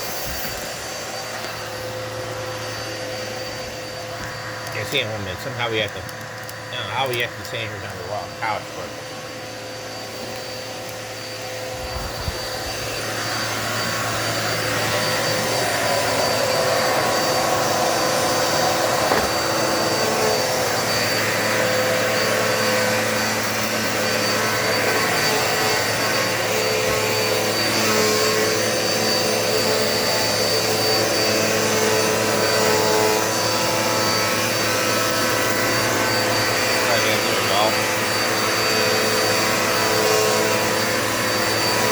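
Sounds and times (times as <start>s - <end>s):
vacuum cleaner motor whine: 0.0s - 41.9s.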